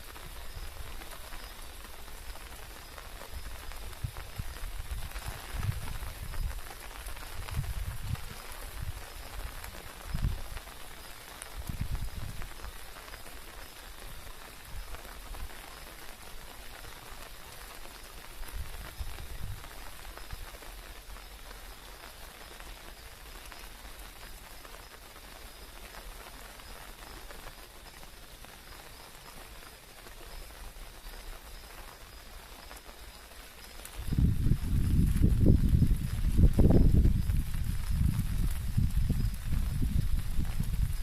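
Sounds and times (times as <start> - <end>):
rain pattering: 0.0 - 41.0.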